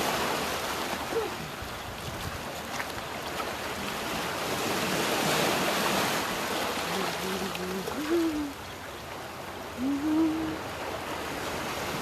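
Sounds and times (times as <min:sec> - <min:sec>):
sea surf washing on shore: 0:00.0 - 0:12.0.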